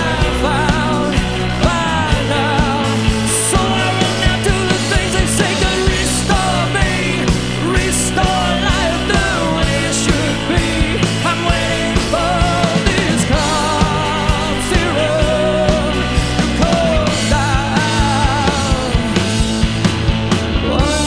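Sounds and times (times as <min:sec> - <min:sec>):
bass line: 0:00.0 - 0:21.0
drum and cymbal hits: 0:00.0 - 0:21.0.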